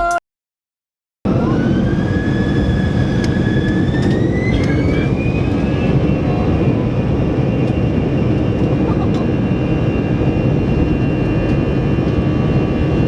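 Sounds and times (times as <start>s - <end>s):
jet engines whining: 1.3s - 13.0s.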